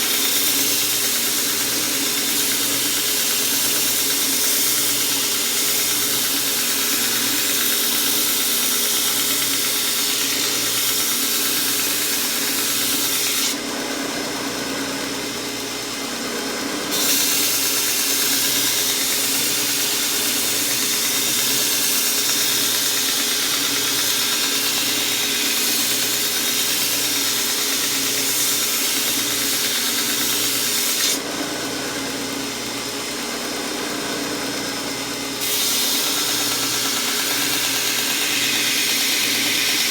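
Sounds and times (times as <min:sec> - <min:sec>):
belt sander grinding steel blade: 0:00.0 - 0:14.0, 0:16.9 - 0:39.9
belt sander motor hum: 0:00.0 - 0:39.9.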